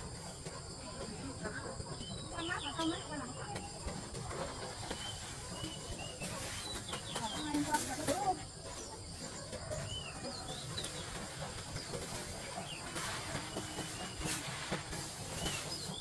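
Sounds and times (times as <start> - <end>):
birds chirping: 0.0 - 16.0
steady outdoor hiss: 0.0 - 16.0.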